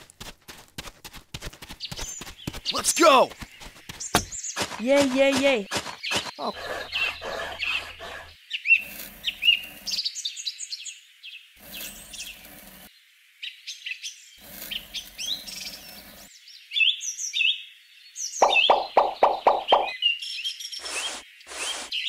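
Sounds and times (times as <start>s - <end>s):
songbirds chirping: 1.7s - 22.0s.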